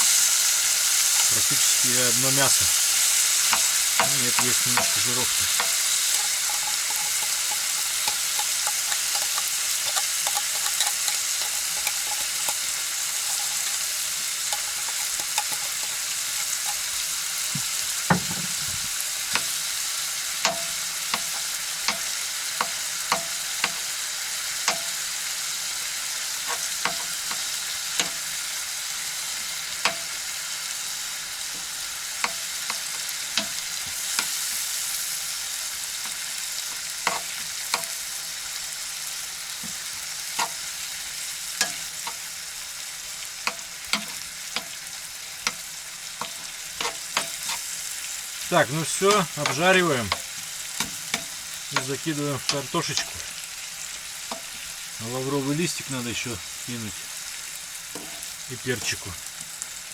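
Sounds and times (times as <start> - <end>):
meat sizzling in a pan: 0.0 - 59.9.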